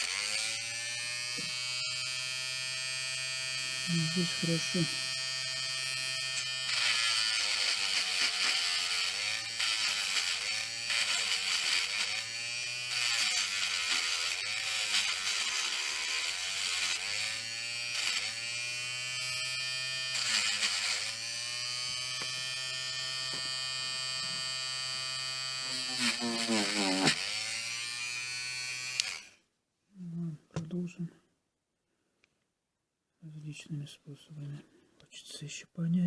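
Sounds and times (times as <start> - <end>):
wire-brush grinder running: 0.0 - 29.4.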